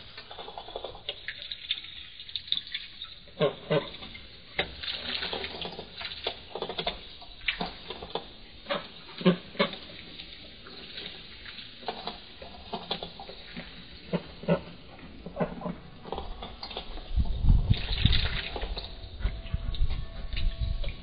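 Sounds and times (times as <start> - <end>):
ducks pecking at wet feed: 0.0 - 21.0.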